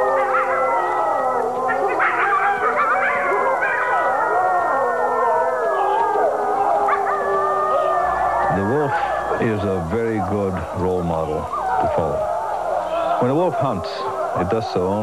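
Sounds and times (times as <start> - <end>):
wolves howling in chorus: 0.0 - 15.0.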